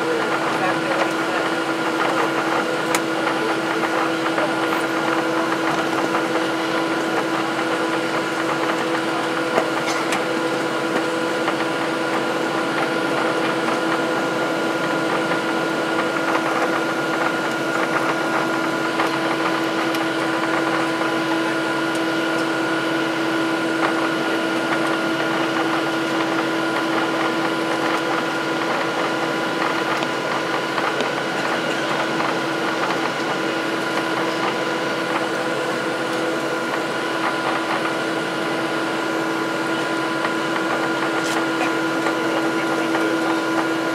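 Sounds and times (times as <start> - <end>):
aircraft cabin engine hum and whine: 0.0 - 43.9.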